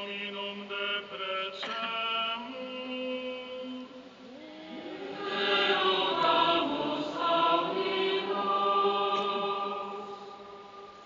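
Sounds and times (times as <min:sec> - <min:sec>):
choir and congregation chanting: 0:00.0 - 0:11.0.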